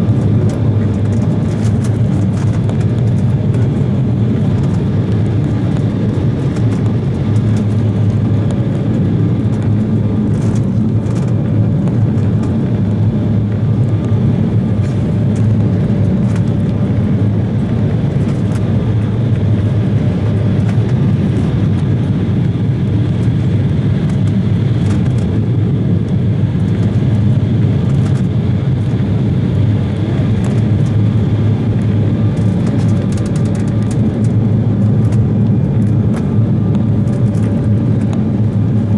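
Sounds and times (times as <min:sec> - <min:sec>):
jet engine drone: 0:00.0 - 0:38.9.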